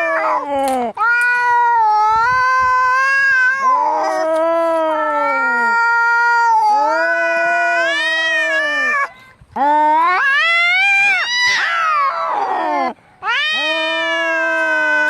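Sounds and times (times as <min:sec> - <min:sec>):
cats yowling in a fight: 0:00.0 - 0:15.0.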